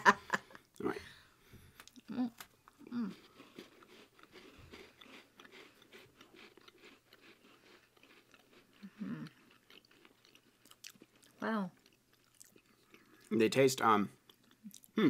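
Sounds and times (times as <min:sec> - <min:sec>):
people crunching biscuits: 0:01.7 - 0:13.4, 0:14.1 - 0:15.0.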